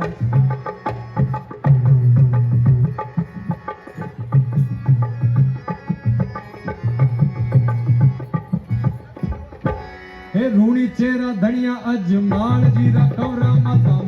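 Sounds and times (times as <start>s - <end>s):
hand drum fast rhythm: 0.0s - 10.0s, 12.2s - 14.0s
melodic folk accompaniment: 0.0s - 14.0s.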